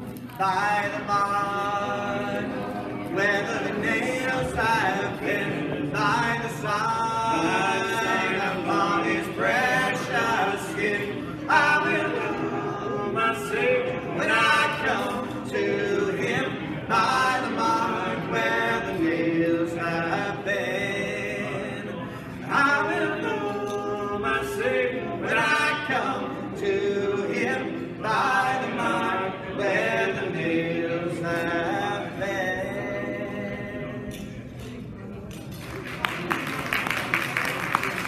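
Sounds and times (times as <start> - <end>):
group singing in close harmony: 0.4 - 34.5.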